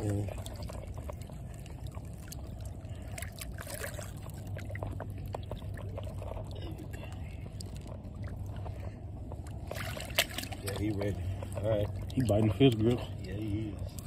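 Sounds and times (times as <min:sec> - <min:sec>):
light water splashes: 0:00.0 - 0:14.0
river water sloshing and trickling: 0:00.0 - 0:14.0
steady low hum: 0:00.0 - 0:14.0.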